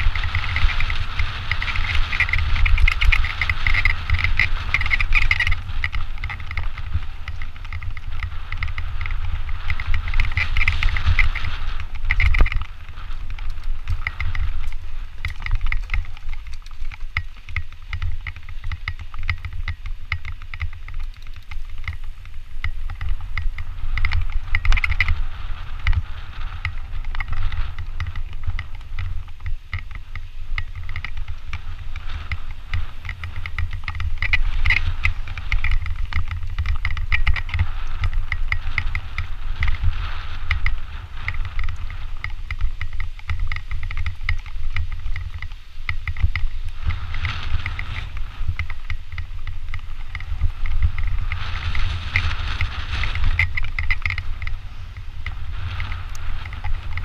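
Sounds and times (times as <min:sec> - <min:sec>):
bike rattling over bumps: 0:00.0 - 0:57.0
wind buffeting microphone: 0:00.0 - 0:57.0.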